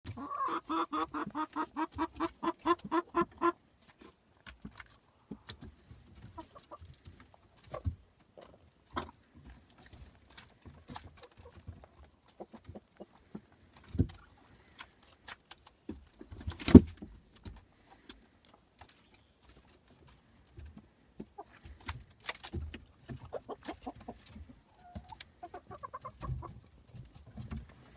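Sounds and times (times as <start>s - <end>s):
chicken clucking: 0.1s - 27.9s.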